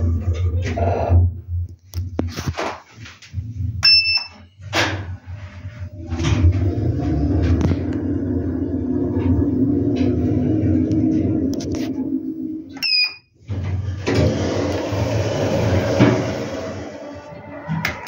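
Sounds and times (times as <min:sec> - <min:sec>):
elevator hum and rumble: 0:00.0 - 0:18.0.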